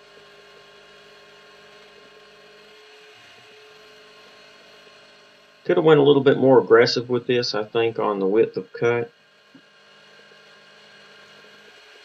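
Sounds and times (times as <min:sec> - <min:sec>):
milling machine humming: 0:00.0 - 0:12.0.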